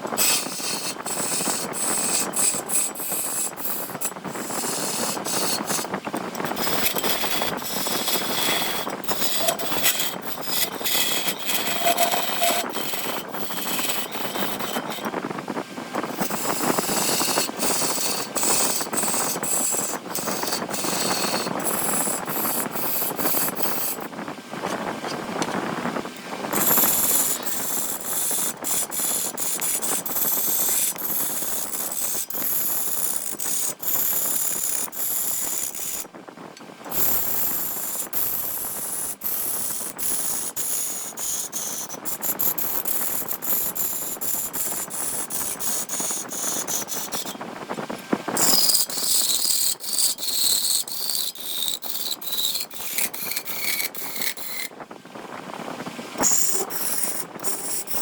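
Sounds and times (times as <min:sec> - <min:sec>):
wood lathe tool scraping: 0:00.0 - 0:24.1, 0:26.5 - 0:36.1, 0:36.9 - 0:47.4, 0:48.3 - 0:54.7, 0:56.2 - 0:58.0
lathe high whine: 0:00.0 - 0:24.2, 0:25.7 - 0:36.1, 0:36.9 - 0:54.8.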